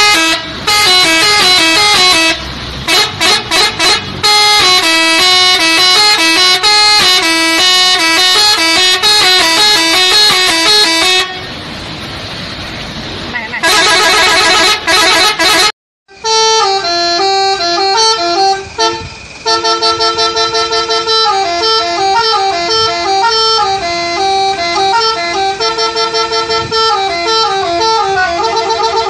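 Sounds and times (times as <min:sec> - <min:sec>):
multi-tone musical truck horns: 0:00.0 - 0:11.6, 0:13.5 - 0:29.0.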